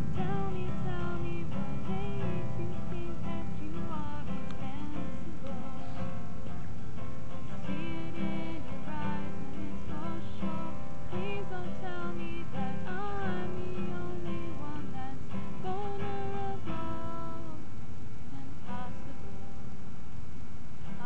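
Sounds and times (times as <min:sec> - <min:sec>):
woman singing: 0:00.0 - 0:06.6, 0:07.3 - 0:17.7, 0:18.3 - 0:19.5
acoustic guitar strumming: 0:00.0 - 0:21.0.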